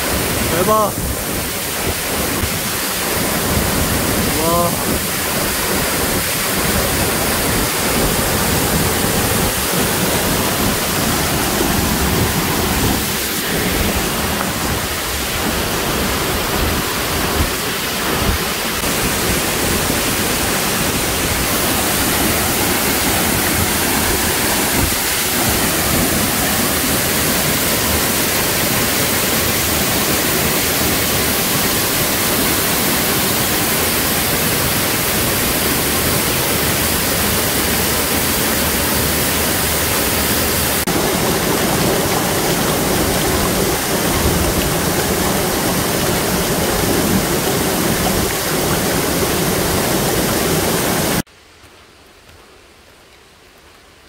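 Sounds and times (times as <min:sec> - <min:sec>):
waterfall rushing: 0:00.0 - 0:51.3.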